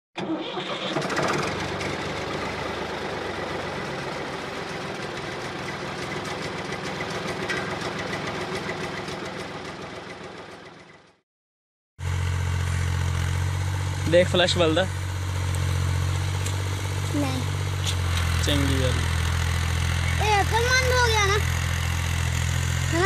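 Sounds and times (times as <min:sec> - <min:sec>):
tractor engine idling: 0:00.2 - 0:11.2, 0:12.0 - 0:23.0.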